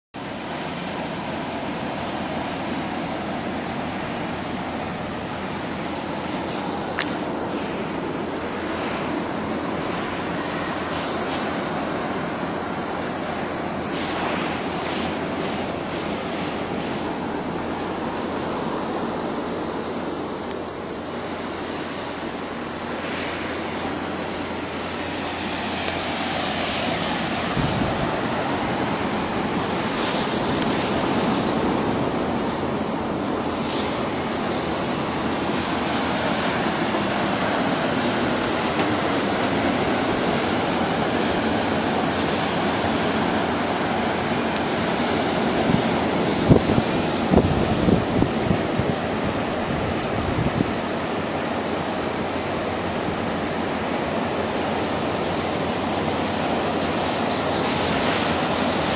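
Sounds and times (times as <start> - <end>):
steady rushing noise: 0.2 - 58.9.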